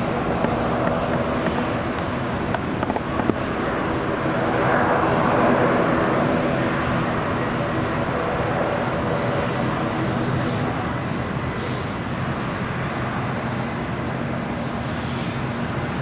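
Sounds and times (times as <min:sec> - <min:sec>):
jet engine rumble and whine: 0:00.0 - 0:16.0.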